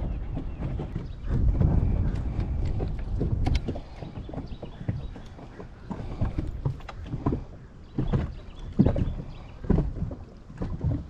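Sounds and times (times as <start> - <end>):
low wind rumble: 0.0 - 11.0
water slapping boat hull: 0.0 - 11.0.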